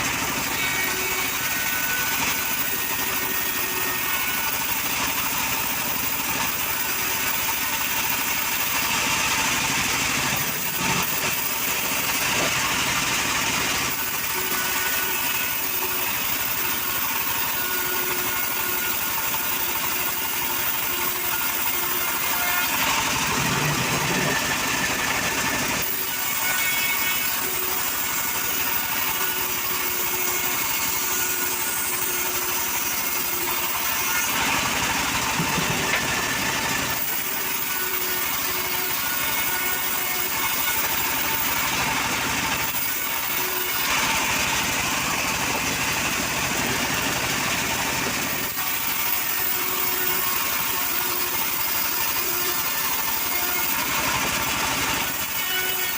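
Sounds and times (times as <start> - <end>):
engine-powered saw running: 0.0 - 55.9.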